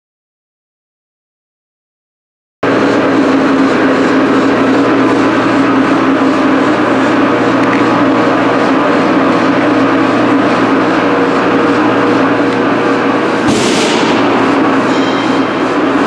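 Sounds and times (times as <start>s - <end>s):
fans and rushing air drone: 2.6s - 16.0s.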